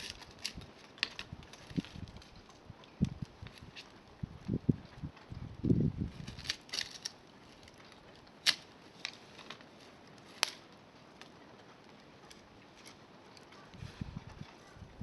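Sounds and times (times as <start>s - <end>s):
bonfire popping and snapping: 0.0s - 14.6s.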